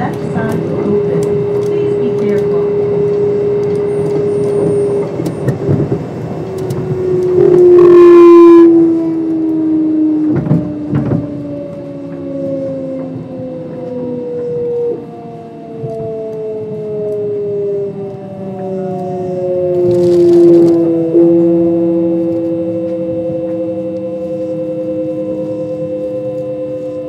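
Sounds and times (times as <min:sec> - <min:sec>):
loud pitched tone: 0:00.0 - 0:15.1, 0:18.3 - 0:27.0
train motors whining: 0:00.0 - 0:27.0.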